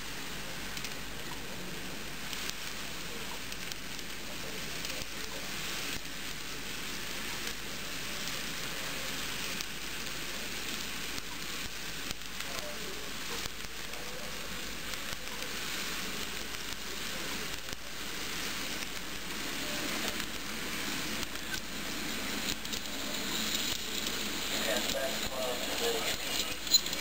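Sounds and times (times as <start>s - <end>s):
model train wheels clicking: 0.0s - 27.0s.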